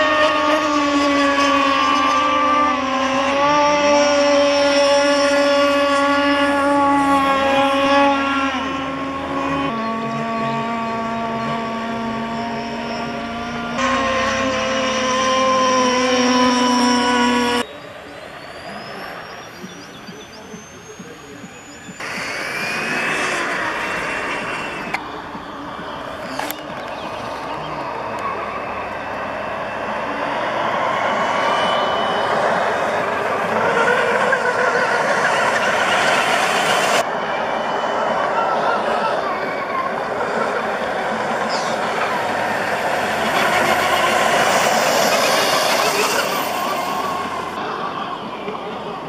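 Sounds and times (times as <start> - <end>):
boat engine high-pitched buzz: 0.0 - 49.0
faint rising whine: 4.4 - 49.0.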